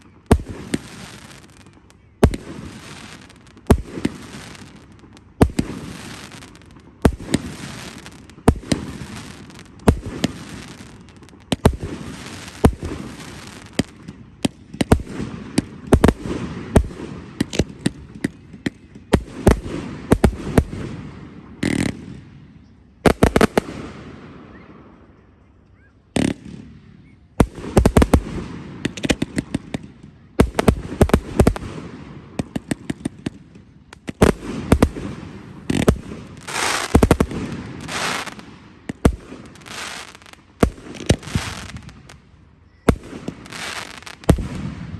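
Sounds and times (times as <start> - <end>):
fireworks bursting with bangs: 0.0 - 25.0, 26.1 - 44.9.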